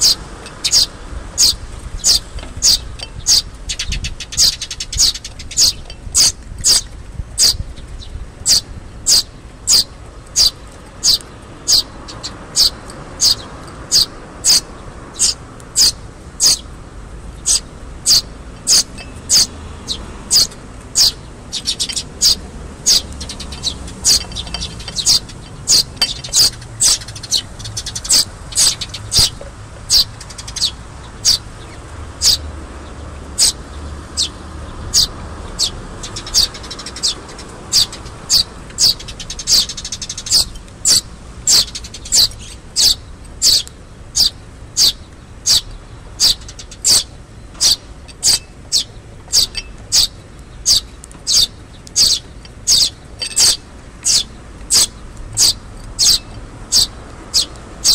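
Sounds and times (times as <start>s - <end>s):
fledglings' begging chirps: 0.0s - 16.7s, 17.3s - 57.9s.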